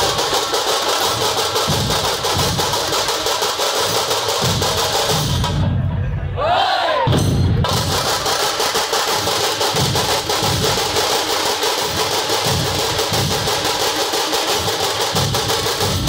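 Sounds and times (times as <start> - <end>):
snare drums rapid roll: 0.0 - 5.6, 7.6 - 16.0
deep barrel drum beats: 0.0 - 6.0, 7.1 - 16.0.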